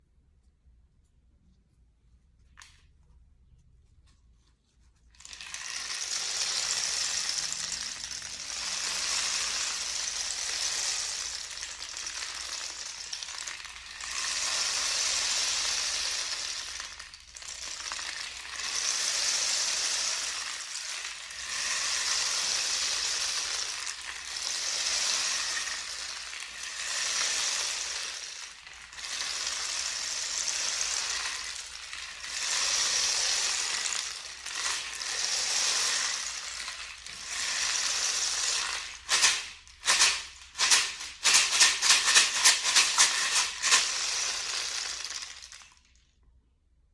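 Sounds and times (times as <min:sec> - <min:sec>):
rain stick trickling hiss: 0:05.2 - 0:45.8.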